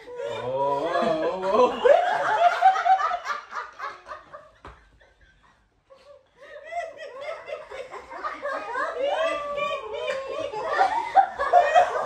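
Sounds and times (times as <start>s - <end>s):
group of people laughing: 0.0s - 12.0s.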